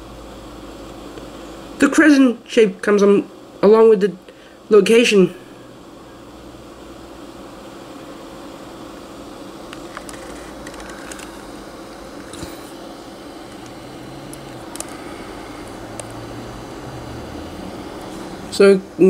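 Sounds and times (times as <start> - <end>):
mechanical room hum: 0.0 - 19.0.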